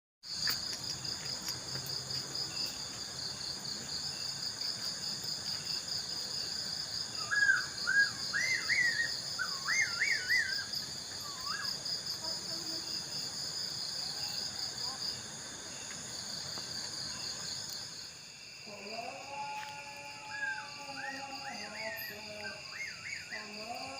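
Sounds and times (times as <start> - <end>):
crickets chirping: 0.2 - 23.9.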